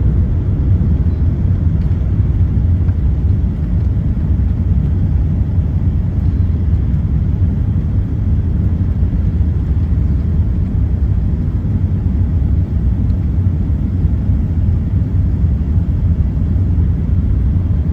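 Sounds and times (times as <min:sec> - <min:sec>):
aircraft cabin engine rumble: 0:00.0 - 0:17.9.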